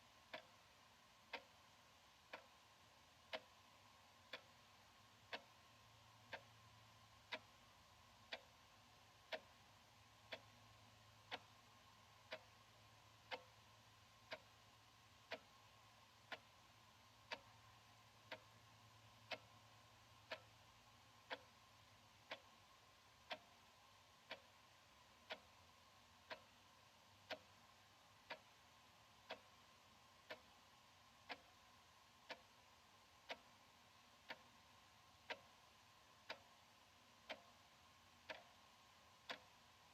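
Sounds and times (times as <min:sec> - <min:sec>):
wall clock ticking: 0:00.0 - 0:39.9.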